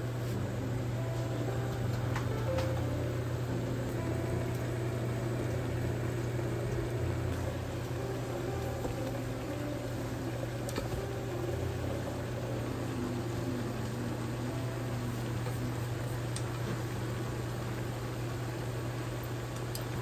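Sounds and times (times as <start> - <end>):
pot simmering: 0.0 - 20.0
steady low hum: 0.0 - 20.0.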